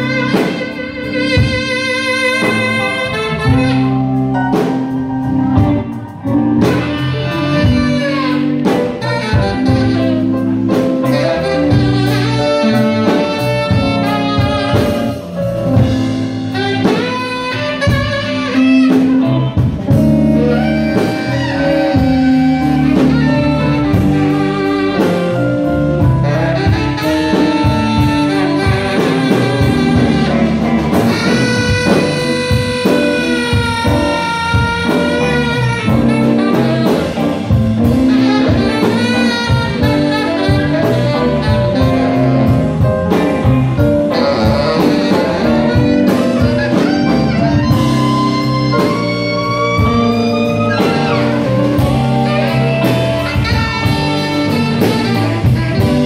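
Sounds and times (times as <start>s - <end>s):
bass: 0.0s - 56.0s
drums: 0.0s - 56.0s
electric guitar: 0.0s - 56.0s
keyboard: 0.0s - 56.0s
saxophone lead: 0.0s - 56.0s.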